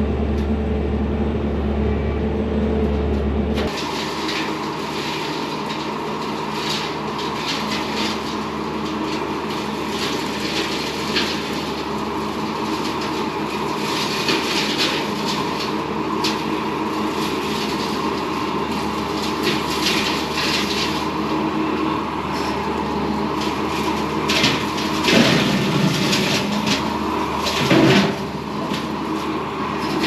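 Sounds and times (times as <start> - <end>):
diesel engine running under load: 0.0 - 30.0
mower crackling through branches: 3.6 - 30.0.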